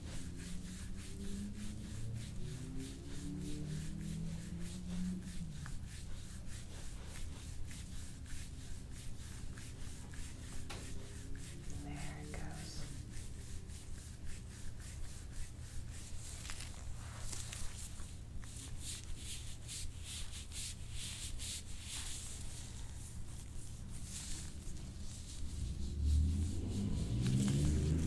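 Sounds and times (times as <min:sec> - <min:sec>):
hands rubbing on body: 0:00.0 - 0:28.0
low steady hum: 0:00.0 - 0:28.0.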